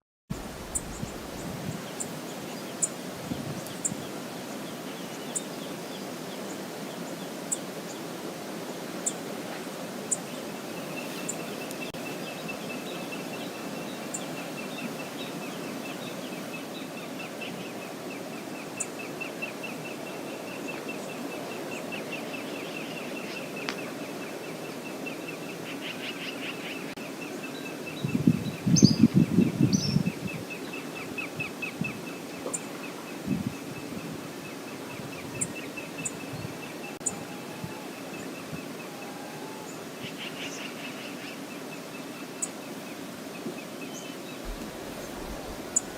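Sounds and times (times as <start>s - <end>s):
waterfall and river rushing: 0.3s - 28.0s, 30.4s - 45.9s.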